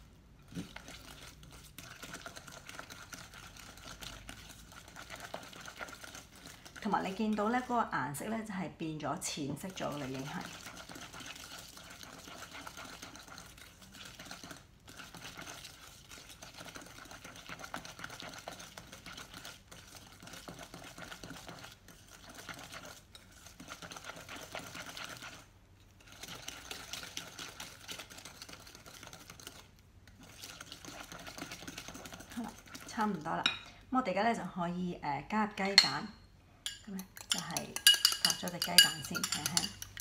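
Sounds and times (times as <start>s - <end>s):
whisk scraping against glass bowl: 0.5s - 7.9s, 9.4s - 33.7s, 35.6s - 40.0s.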